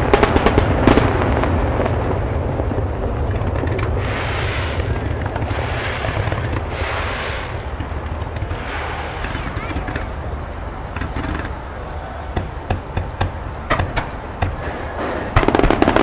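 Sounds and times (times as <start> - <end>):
firework shells bursting: 0.0 - 16.0
hissing fountain fireworks: 0.0 - 16.0
rumble of distant fireworks: 0.0 - 16.0.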